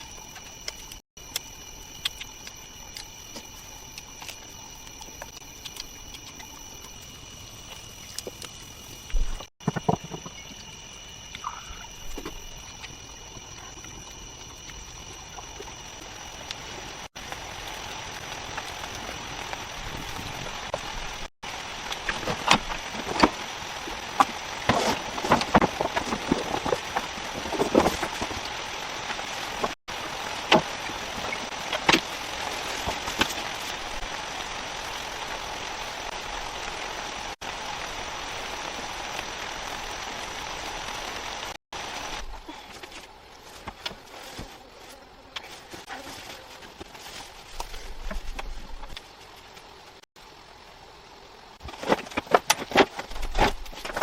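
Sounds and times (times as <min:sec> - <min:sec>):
rain falling steadily: 0:00.0 - 0:09.5, 0:10.6 - 0:44.9, 0:45.5 - 0:54.0.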